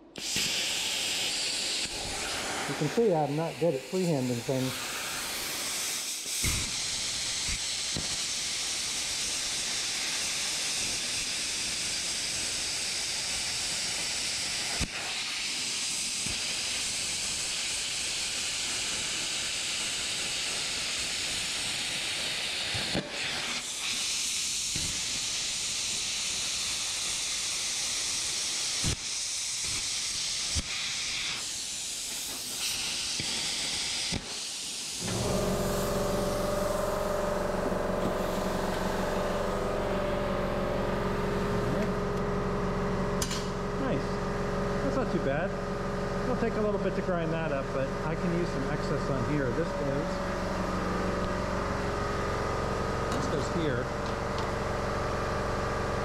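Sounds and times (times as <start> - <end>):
plasma cutter hissing: 0.0 - 42.2, 48.2 - 51.4.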